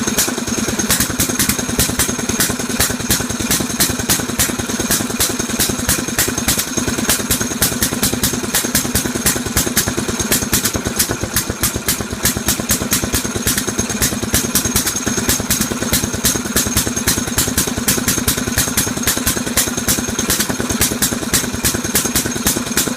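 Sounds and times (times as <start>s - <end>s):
boat engine clattering: 0.0s - 22.9s.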